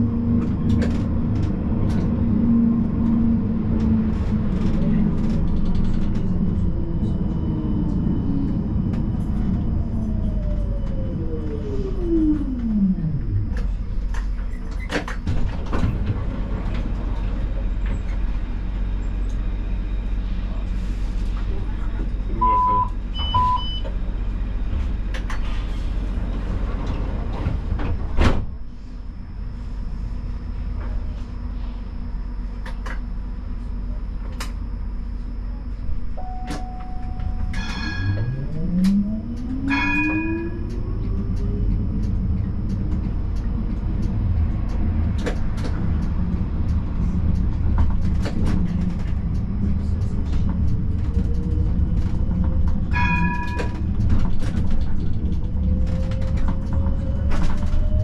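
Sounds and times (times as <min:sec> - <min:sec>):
tram low hum: 0:00.0 - 0:58.0
tram traction drive whine: 0:00.0 - 0:58.0.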